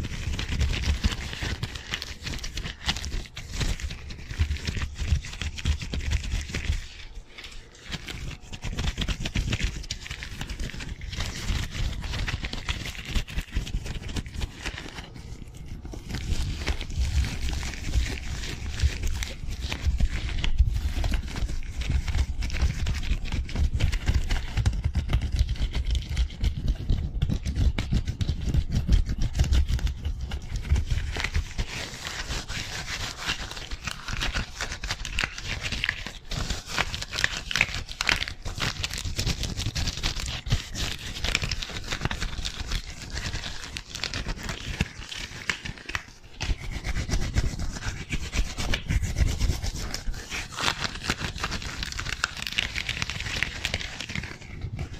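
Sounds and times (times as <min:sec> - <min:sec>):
gloved hands rubbing: 0:00.0 - 0:54.9.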